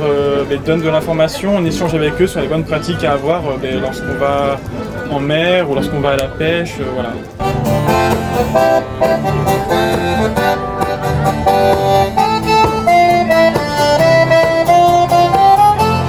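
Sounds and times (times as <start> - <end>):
acoustic guitar strumming: 0.0 - 16.0
button accordions: 0.6 - 16.0.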